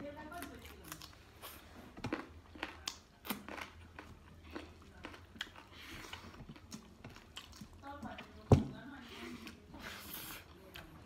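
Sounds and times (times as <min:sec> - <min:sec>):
person chewing with wet smacks: 0:00.2 - 0:08.5, 0:09.3 - 0:11.0.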